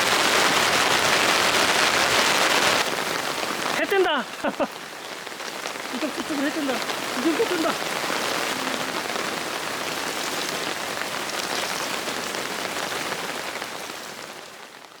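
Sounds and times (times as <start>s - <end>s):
rain pattering on surfaces: 0.0s - 15.0s.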